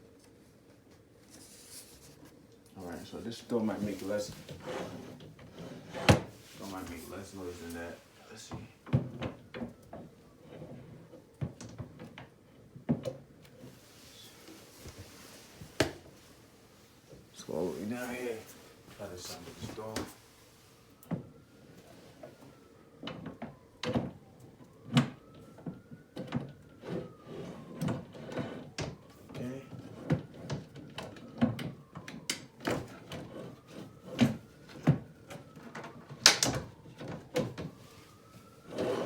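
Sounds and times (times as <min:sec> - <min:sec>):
faint rising and falling whine: 0:00.0 - 0:39.0.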